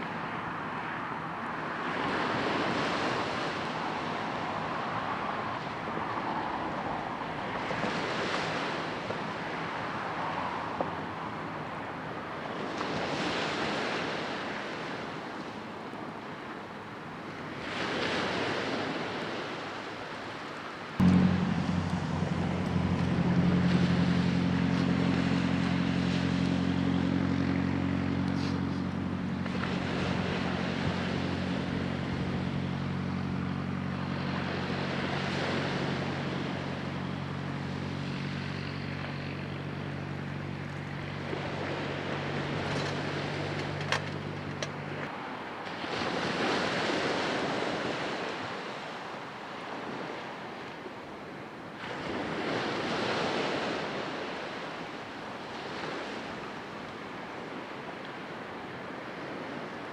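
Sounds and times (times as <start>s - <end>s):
low engine hum: 0.0s - 59.9s
waves washing on shore: 0.0s - 59.9s.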